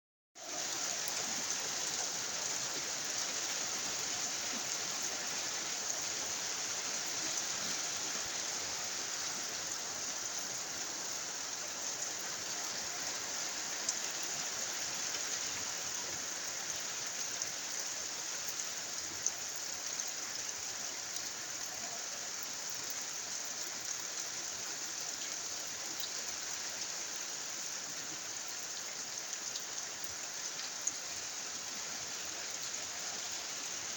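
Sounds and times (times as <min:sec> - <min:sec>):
steady rain hiss: 0:00.4 - 0:33.9.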